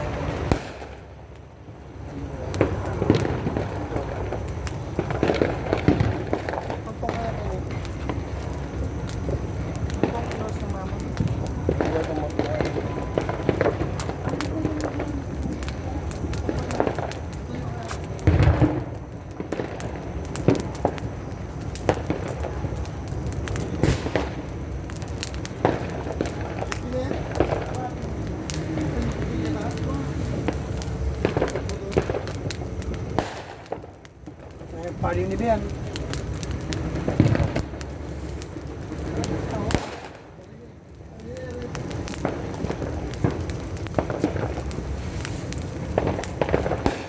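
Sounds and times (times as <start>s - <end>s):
distant popping: 0.0s - 47.0s
fireworks bangs: 0.0s - 47.0s.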